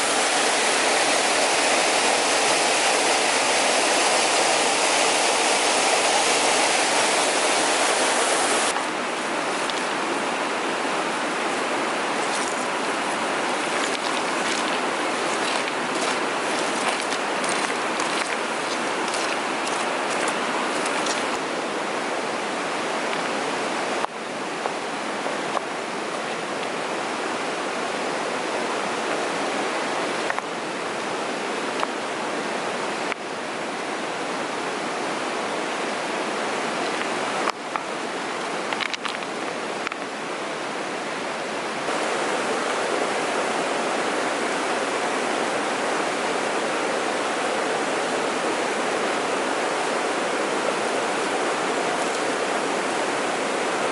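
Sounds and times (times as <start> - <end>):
mountain stream rushing: 0.0 - 53.9.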